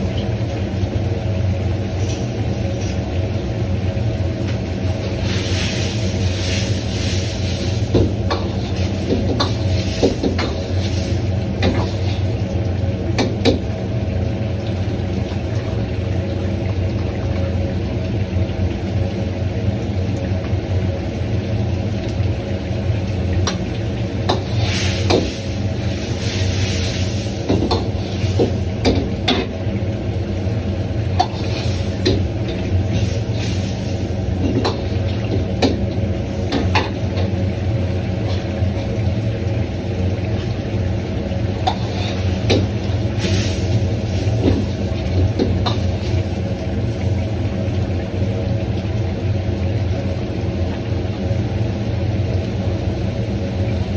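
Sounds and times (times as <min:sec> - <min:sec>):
burner and ventilation roar: 0:00.0 - 0:53.9
food sizzling: 0:00.2 - 0:16.6, 0:20.6 - 0:49.3.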